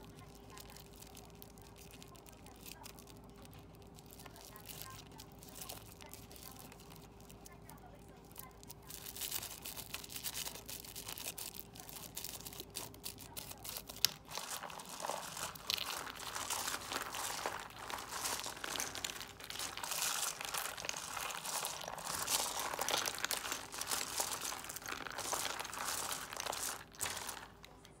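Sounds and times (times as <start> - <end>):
dice and plastic pieces clicking: 0.0 - 27.8
foil and paper crinkling: 0.0 - 27.9.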